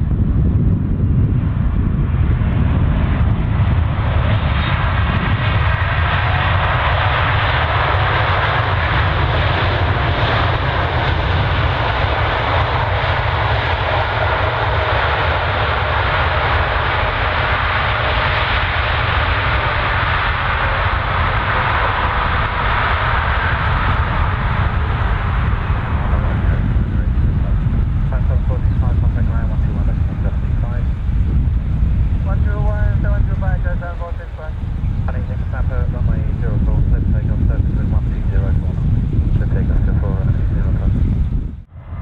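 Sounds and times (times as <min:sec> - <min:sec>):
jet engine roar at takeoff: 0:00.0 - 0:42.0.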